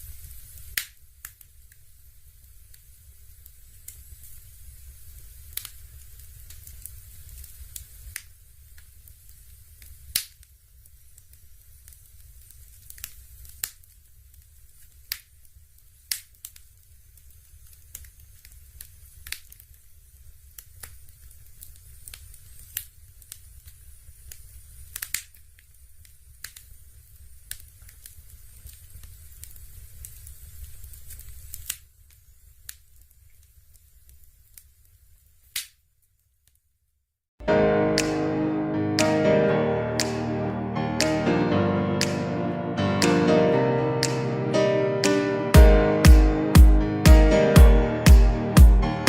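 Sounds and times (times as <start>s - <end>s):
fireplace crackling and popping: 0.0s - 36.6s, 38.0s - 38.4s, 44.0s - 48.8s.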